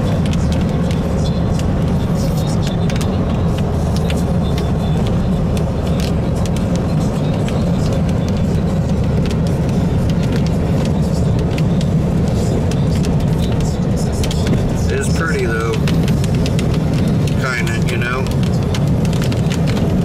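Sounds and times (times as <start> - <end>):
tyre and engine rumble: 0.0 - 20.0.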